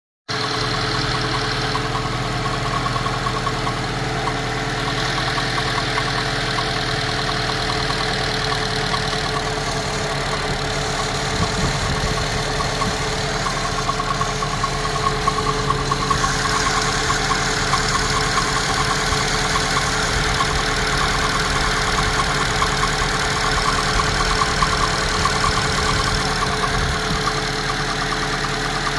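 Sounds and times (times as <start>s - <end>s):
car engine idling with whine: 0.3s - 28.9s
rapid rattle: 0.3s - 28.9s.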